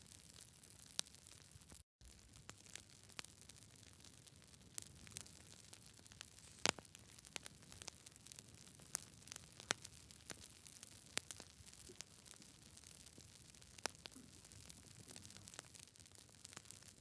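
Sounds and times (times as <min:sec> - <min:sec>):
wood fire crackling: 0:00.1 - 0:17.0
faint steady hiss: 0:02.0 - 0:17.0.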